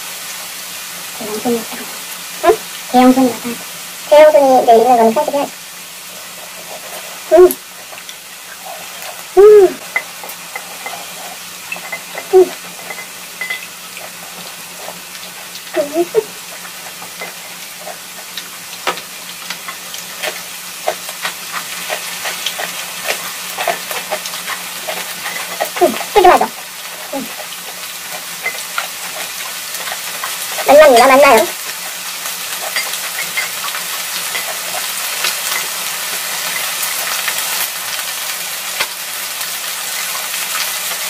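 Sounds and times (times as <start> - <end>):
meat and vegetables sizzling: 0.0 - 41.0.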